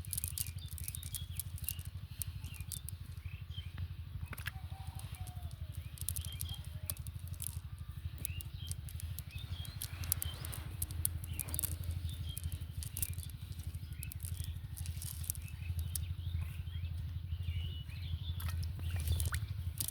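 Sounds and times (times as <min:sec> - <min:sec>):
faint clicks: 0:00.0 - 0:03.2, 0:04.3 - 0:16.1, 0:18.4 - 0:19.9
bird chirps: 0:00.0 - 0:19.9
steady low rumble: 0:00.0 - 0:19.9.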